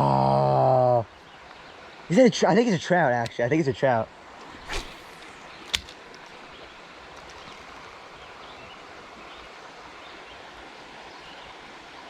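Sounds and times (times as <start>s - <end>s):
creek water running: 1.0s - 12.0s.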